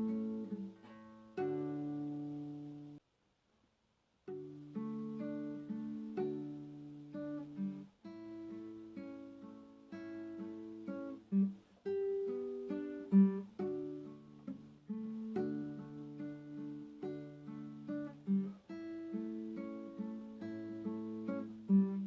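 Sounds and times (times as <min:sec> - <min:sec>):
acoustic guitar playing: 0:00.0 - 0:03.0, 0:04.3 - 0:22.0.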